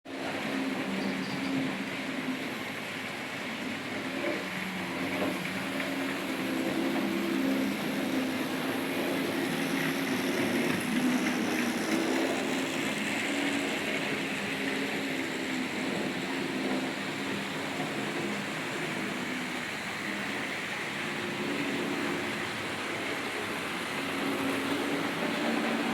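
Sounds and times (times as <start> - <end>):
model train motor hum: 0.1 - 25.9
wheels rumbling on rails: 0.1 - 25.9.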